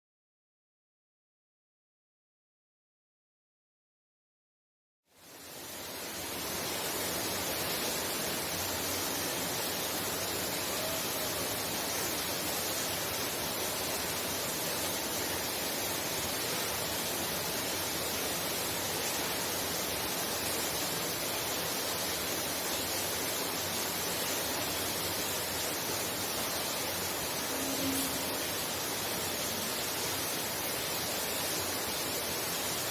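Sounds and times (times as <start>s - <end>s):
heavy rain heard indoors: 5.1s - 32.9s.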